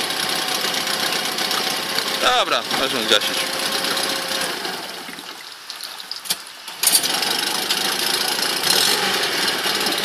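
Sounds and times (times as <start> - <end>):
outboard motor running: 0.0 - 5.3, 6.8 - 10.0.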